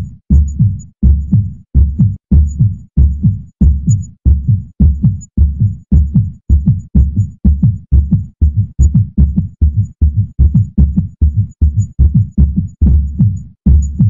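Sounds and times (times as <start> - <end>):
heartbeat double thump: 0.3 - 14.0.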